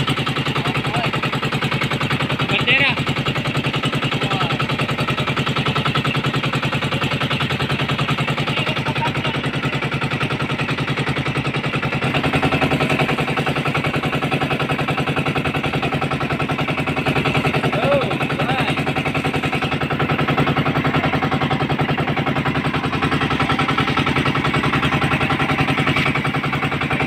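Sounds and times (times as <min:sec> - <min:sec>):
boat engine knocking: 0:00.0 - 0:27.0.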